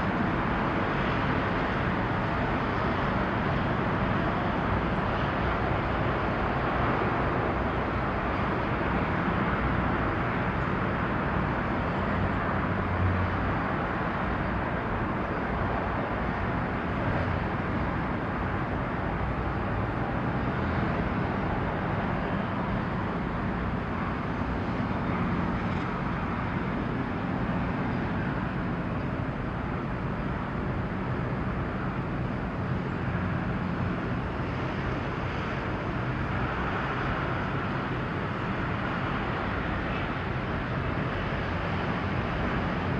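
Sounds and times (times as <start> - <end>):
constant wash of noise: 0.0 - 42.9.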